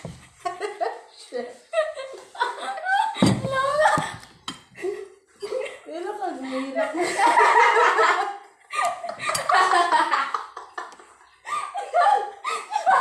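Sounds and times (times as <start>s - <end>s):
people laughing: 1.7s - 13.0s.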